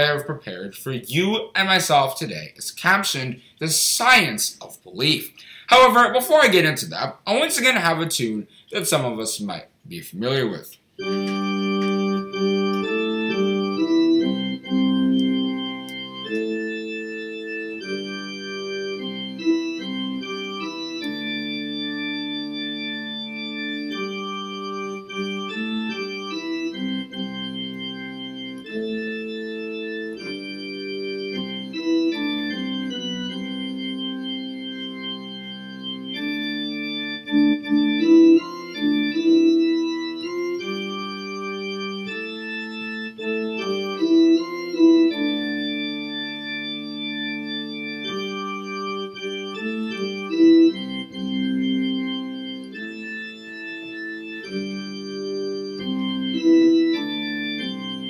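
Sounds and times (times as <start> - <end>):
organ keyboard chords: 0.0 - 58.0.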